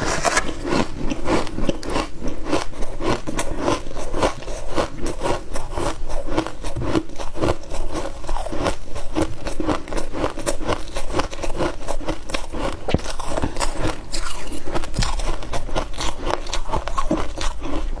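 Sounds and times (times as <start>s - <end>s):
chewing crunchy frost: 0.0s - 18.0s.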